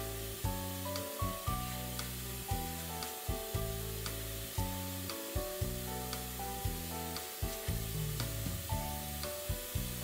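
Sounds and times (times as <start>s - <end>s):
background music with steady beat: 0.0s - 10.0s
tap water running into sink: 0.4s - 10.0s.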